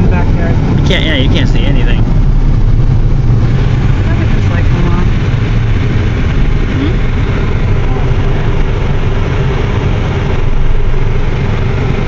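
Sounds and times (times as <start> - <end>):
car running noise: 0.0 - 12.0
strong wind buffeting car: 0.0 - 12.0.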